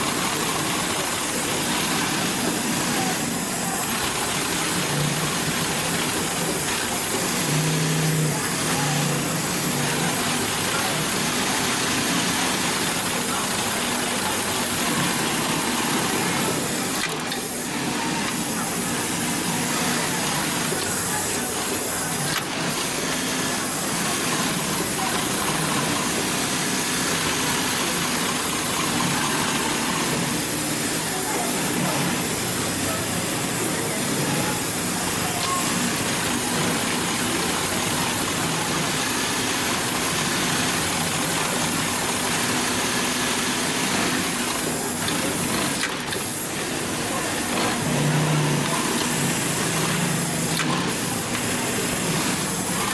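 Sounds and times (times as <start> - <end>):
sewing machine stitching: 0.0 - 52.9.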